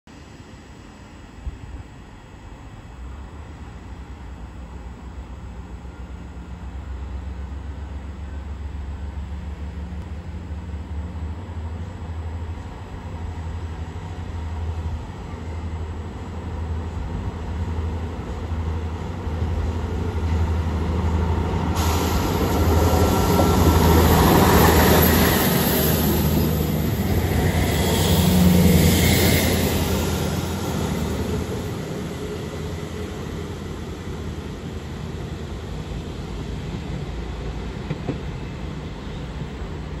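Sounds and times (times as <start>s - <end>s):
diesel train passing: 0.2s - 40.0s.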